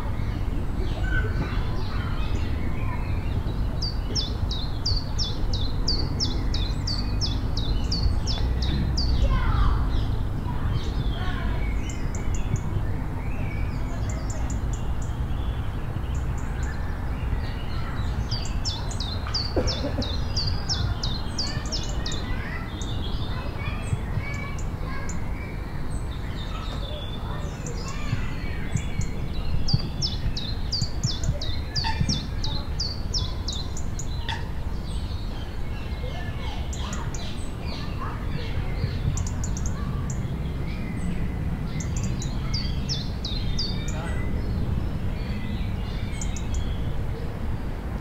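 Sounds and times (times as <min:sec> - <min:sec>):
scattered bird calls: 0:00.0 - 0:47.6
songbird singing: 0:00.0 - 0:48.0.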